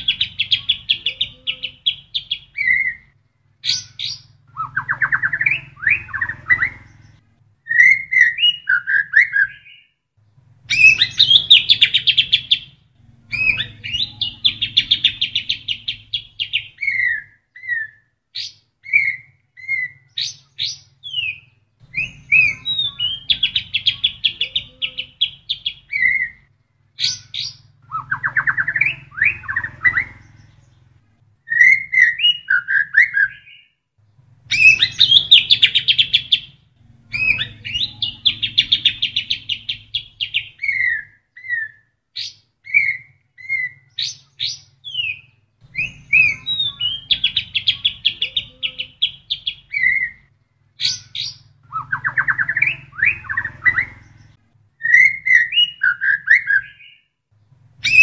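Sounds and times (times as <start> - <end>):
bird singing trills and whistles: 0.0 - 10.0, 10.7 - 33.8, 34.5 - 57.1, 57.8 - 58.0.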